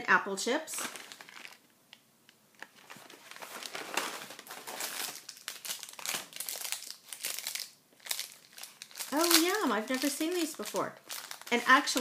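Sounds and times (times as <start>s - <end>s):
snack bag crinkling: 0.8s - 1.7s, 2.6s - 12.0s.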